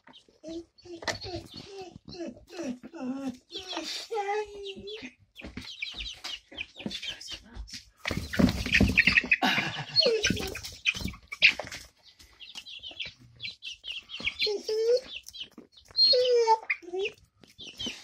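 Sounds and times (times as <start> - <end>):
chickens squawking: 0.0 - 18.0
chicks peeping: 0.0 - 18.0
wings and feet in straw: 0.9 - 18.0.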